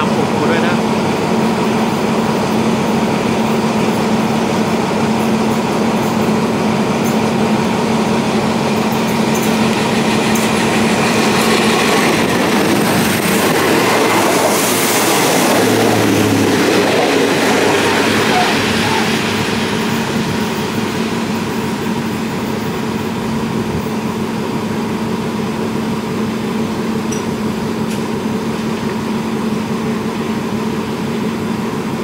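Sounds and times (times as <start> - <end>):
diesel railcar passing: 0.0 - 32.0
steady engine hum: 0.0 - 32.0.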